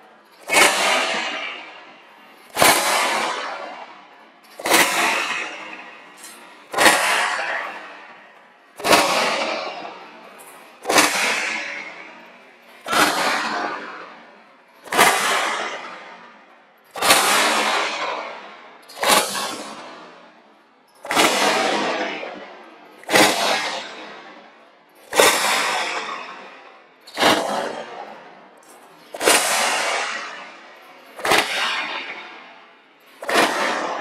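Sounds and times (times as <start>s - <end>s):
whip cracking with echo: 0.0s - 20.4s, 21.0s - 34.0s.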